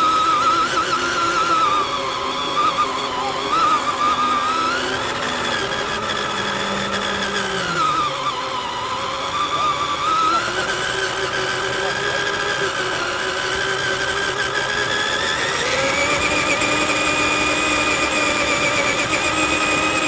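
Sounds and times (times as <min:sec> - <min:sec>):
electric motors and gears whining: 0:00.0 - 0:20.0.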